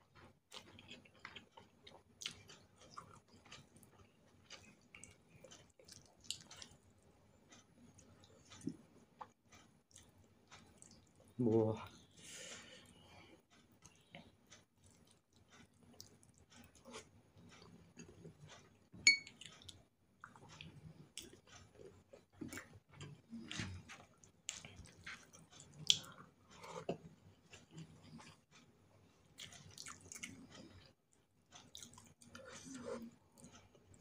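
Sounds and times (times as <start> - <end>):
person chewing food: 0.0 - 11.4, 12.0 - 34.0.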